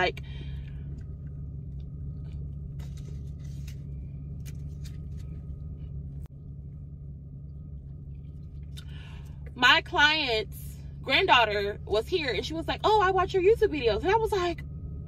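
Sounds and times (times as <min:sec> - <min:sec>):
car engine low hum: 0:00.0 - 0:15.0.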